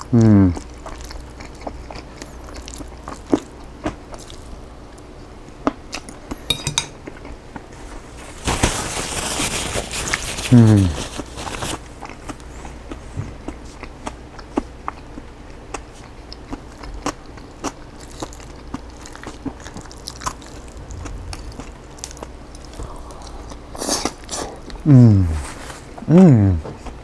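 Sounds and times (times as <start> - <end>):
chewing crunchy salad: 0.0 - 4.7, 7.9 - 27.0.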